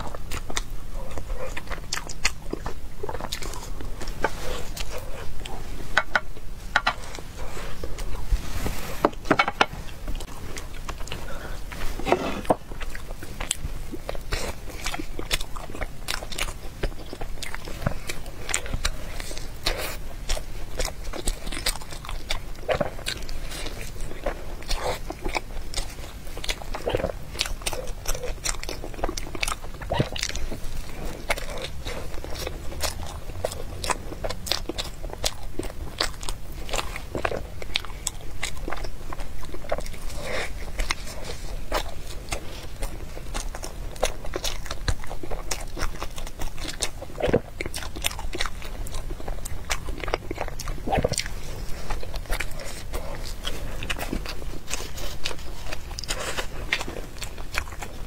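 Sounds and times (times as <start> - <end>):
biting and chewing bun: 0.0 - 58.0.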